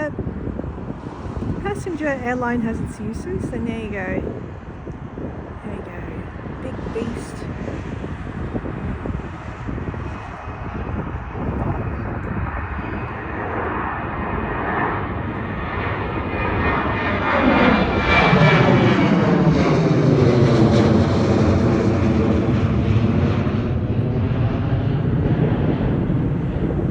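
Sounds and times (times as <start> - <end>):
jet engine roar: 0.0 - 26.9.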